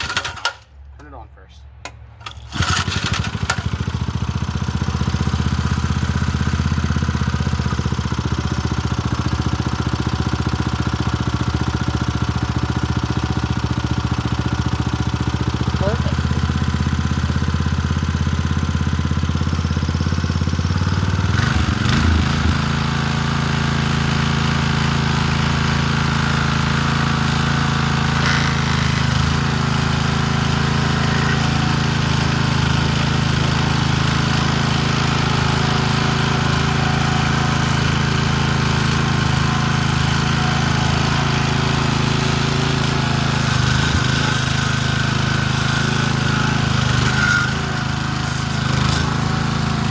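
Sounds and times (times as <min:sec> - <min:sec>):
lawn edger engine running: 0:00.0 - 0:00.7, 0:02.1 - 0:49.9.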